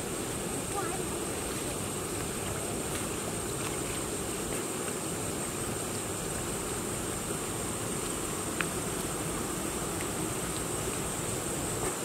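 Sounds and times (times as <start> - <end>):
feet wading through shallow water: 0.0 - 12.0.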